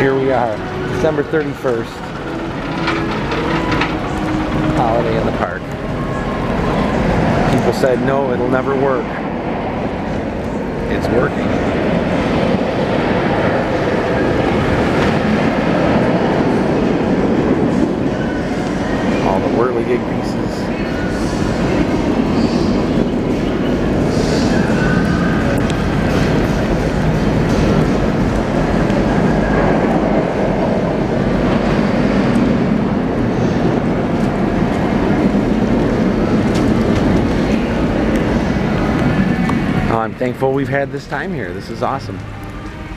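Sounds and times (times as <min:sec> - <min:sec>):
wind buffeting microphone: 0:00.0 - 0:40.4.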